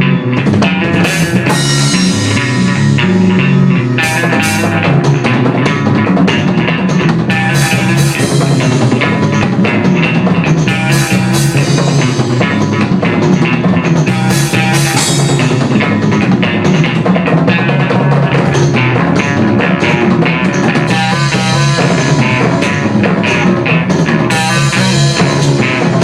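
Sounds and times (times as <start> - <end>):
drum kit: 0.0 - 26.0
electric guitar: 0.0 - 26.0.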